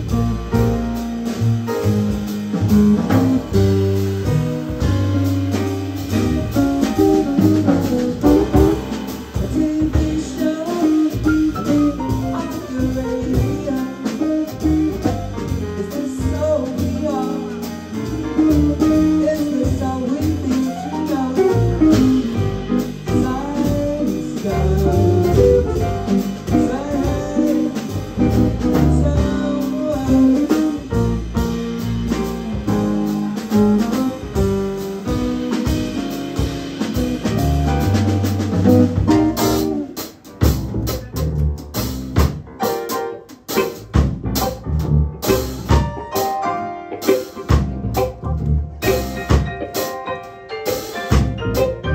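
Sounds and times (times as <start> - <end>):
jazz band playing: 0.0 - 51.9.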